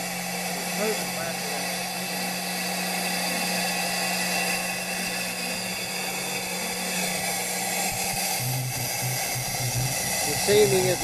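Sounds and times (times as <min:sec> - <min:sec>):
machine hum with high whine: 0:00.0 - 0:11.0.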